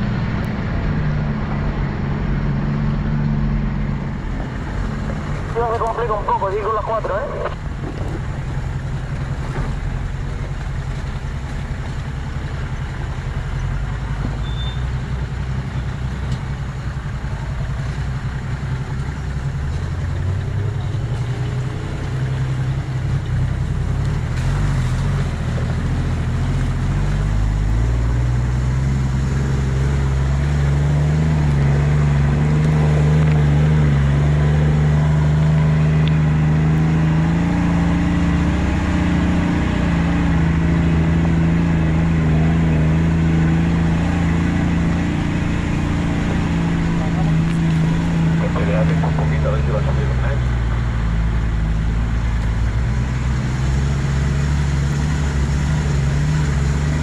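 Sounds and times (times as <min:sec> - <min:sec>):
off-road vehicle engine: 0:00.0 - 0:57.0.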